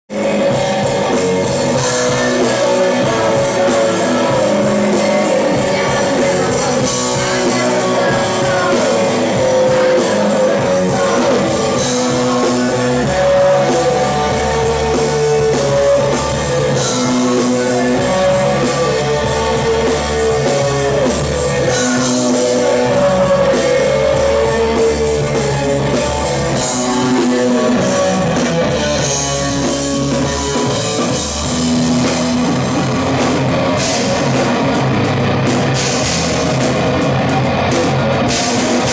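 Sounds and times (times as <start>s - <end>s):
bass guitar: 0.0s - 38.9s
electric guitar: 0.1s - 38.9s
live rock band playing: 0.1s - 38.9s
person singing: 0.1s - 38.9s.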